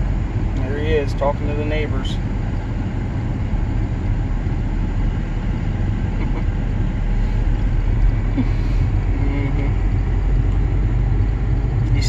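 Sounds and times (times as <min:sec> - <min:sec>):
pickup engine rumble: 0:00.0 - 0:12.0
road noise: 0:00.0 - 0:12.0.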